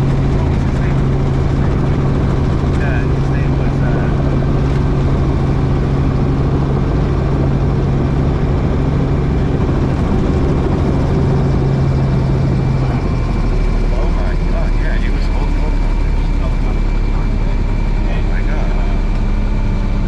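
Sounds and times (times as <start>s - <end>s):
helicopter engine and rotor drone: 0.0s - 20.0s.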